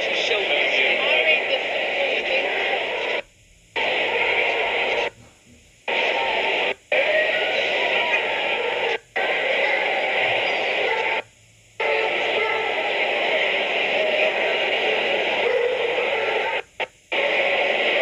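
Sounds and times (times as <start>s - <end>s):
muffled crowd murmur: 0.0s - 3.2s, 3.8s - 18.0s.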